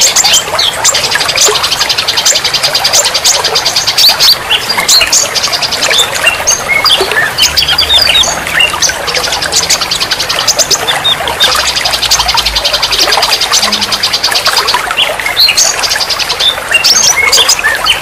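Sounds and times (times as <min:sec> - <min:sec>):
songbirds trilling and chirping: 0:00.0 - 0:18.0.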